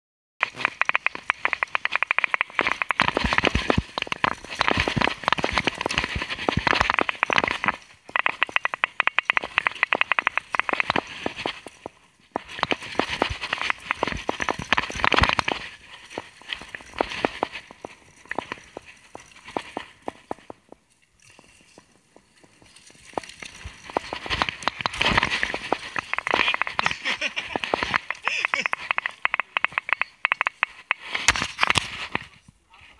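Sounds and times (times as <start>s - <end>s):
bike clicking and rattling: 0.4s - 32.2s
tyre noise on dirt: 0.4s - 32.5s.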